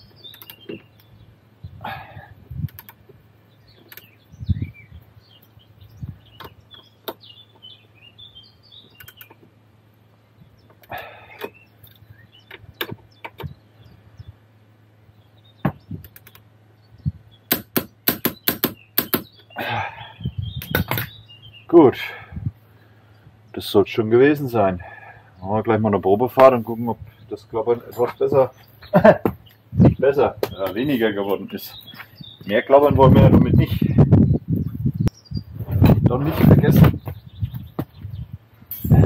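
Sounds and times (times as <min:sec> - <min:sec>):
birds chirping faintly: 0:00.0 - 0:39.0
steady low hum: 0:00.0 - 0:39.0.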